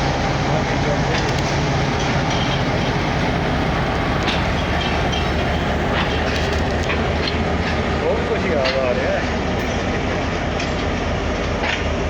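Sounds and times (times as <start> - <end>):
train rolling rumble: 0.0 - 12.0
wheels clicking over rail joints: 0.0 - 12.0.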